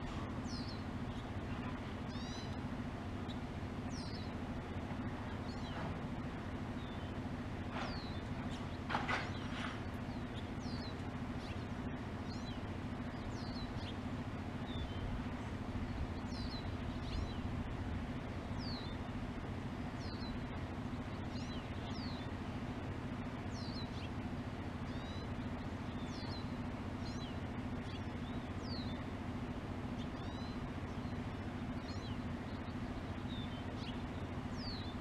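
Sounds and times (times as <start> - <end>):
low hum: 0.0 - 35.0
songbird chirping: 0.0 - 35.0.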